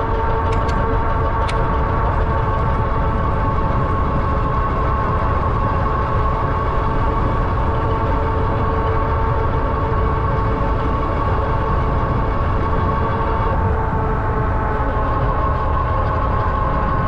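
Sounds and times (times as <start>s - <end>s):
electric motor whine: 0.0s - 17.0s
wind and tyres rumbling: 0.0s - 17.0s.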